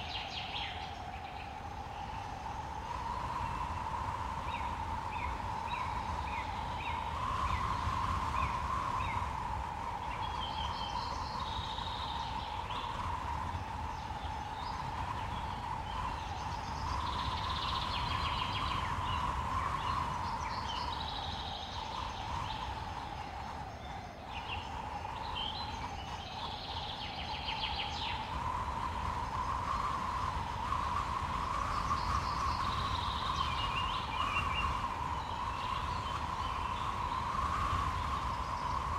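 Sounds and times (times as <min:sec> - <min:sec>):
low wind rumble: 0:00.0 - 0:38.9.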